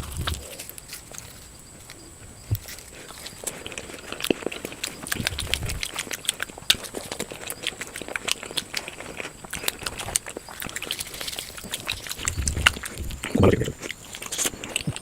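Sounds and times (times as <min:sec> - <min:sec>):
wet mouth clicks: 0:00.0 - 0:00.6, 0:02.5 - 0:15.0
chewing and lip smacking: 0:00.0 - 0:15.0.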